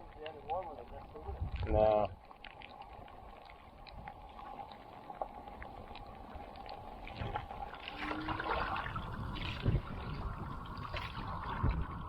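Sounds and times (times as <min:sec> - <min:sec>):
light rain pattering on water: 0:00.0 - 0:12.0
paddle splashes: 0:00.0 - 0:12.0.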